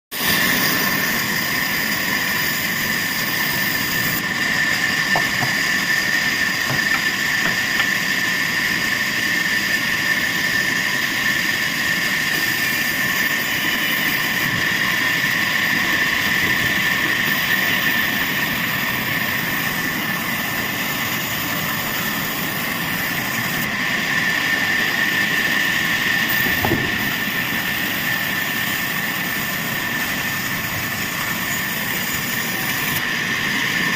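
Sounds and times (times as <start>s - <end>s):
sawmill saw whining: 0.1s - 33.9s
machinery rumble: 0.4s - 33.9s.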